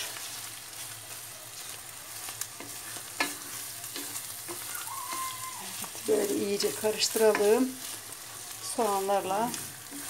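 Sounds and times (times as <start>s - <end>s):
meat and onions sizzling in a pan: 0.0s - 10.0s
wooden spatula stirring: 0.0s - 10.0s.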